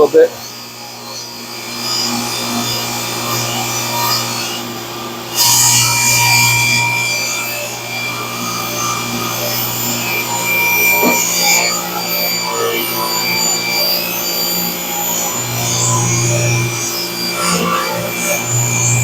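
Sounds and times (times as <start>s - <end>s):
table saw cutting wood: 0.0s - 19.0s.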